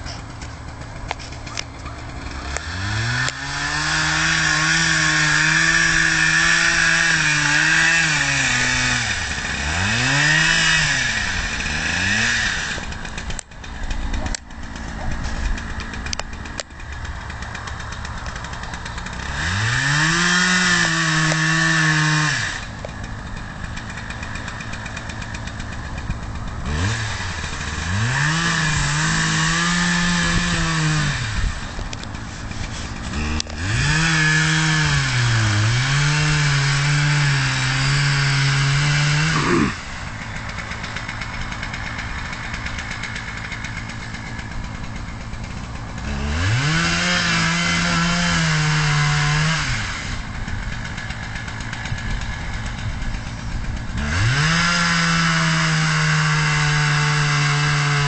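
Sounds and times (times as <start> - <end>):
chainsaw cutting at full throttle: 0.0 - 58.0
chainsaw idling: 0.0 - 58.0.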